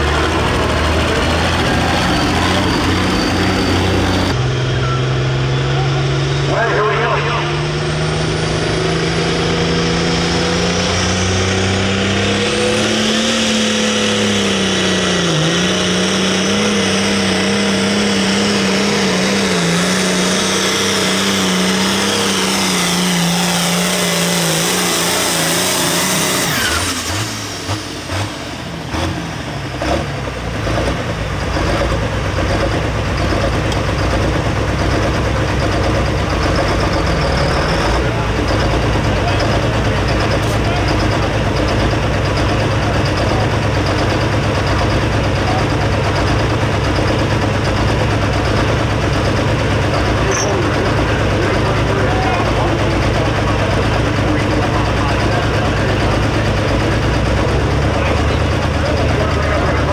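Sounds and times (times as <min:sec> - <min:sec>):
engine idling: 0:00.0 - 0:09.8, 0:14.0 - 0:59.9
tractor diesel engine at full throttle: 0:00.0 - 0:59.9.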